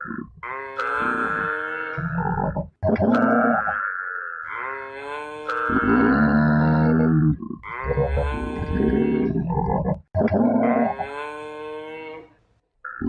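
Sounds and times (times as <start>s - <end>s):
cattle mooing: 0.0s - 9.9s, 10.6s - 12.3s.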